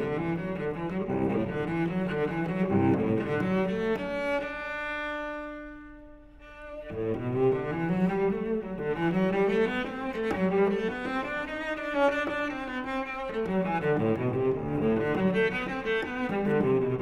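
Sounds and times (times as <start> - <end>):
solo bowed string music: 0.0 - 17.0.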